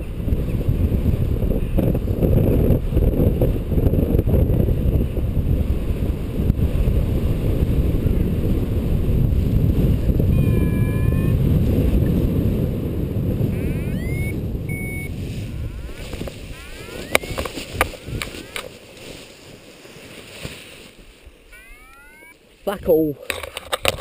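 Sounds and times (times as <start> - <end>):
wind buffeting microphone: 0.0 - 21.3.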